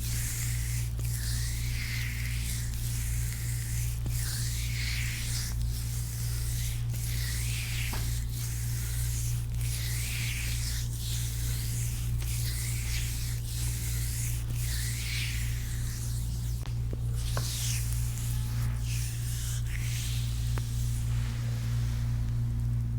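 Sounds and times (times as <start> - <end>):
steady low hum: 0.0 - 22.9
hands rubbing skin: 0.1 - 22.9.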